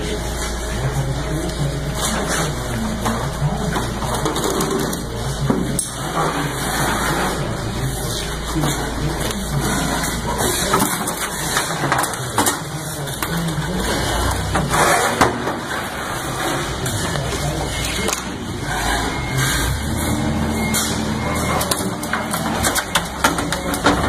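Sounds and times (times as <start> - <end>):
machine engine humming: 0.0 - 24.0.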